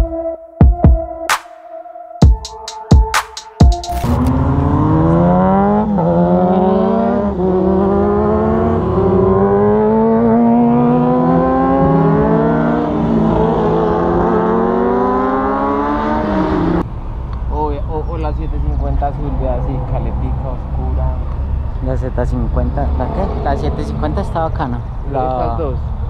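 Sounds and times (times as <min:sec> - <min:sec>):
motorcycle engines accelerating: 0:04.0 - 0:16.9, 0:17.6 - 0:25.9.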